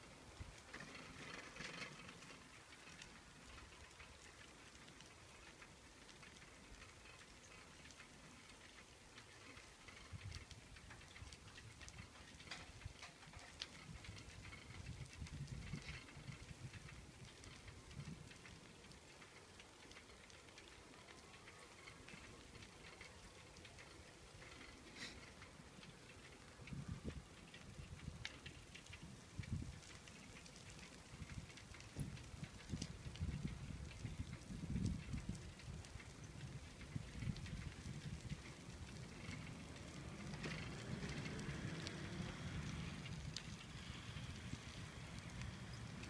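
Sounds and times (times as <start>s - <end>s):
faint background hiss: 0.0s - 46.0s
small crackles: 0.0s - 46.0s.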